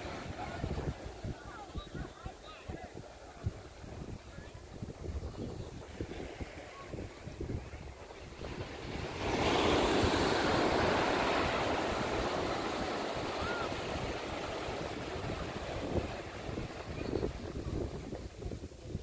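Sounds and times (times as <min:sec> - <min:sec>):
waves breaking on beach: 0:00.0 - 0:19.0
wind buffeting microphone: 0:00.0 - 0:19.0.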